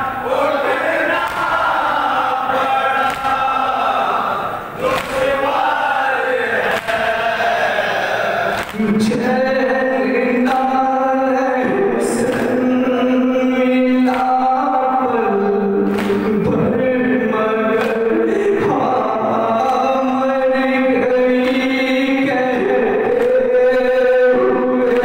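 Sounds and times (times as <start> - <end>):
man reciting into a microphone: 0.0 - 25.0
men chanting in unison: 0.0 - 25.0.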